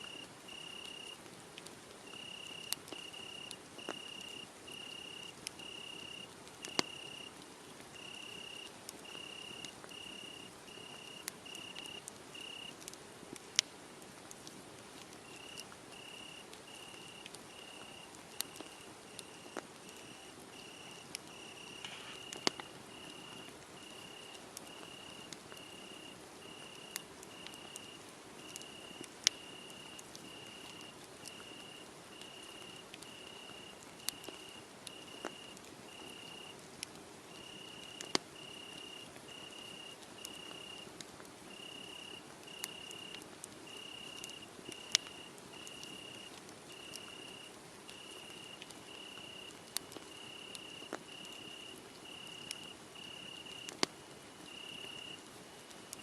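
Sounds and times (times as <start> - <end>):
crickets chirping: 0.0 - 1.2, 2.1 - 7.3, 8.0 - 12.7, 15.2 - 36.5, 37.3 - 40.8, 41.5 - 53.8, 54.4 - 55.3
wood fire crackling and popping: 0.3 - 38.5, 42.4 - 56.0.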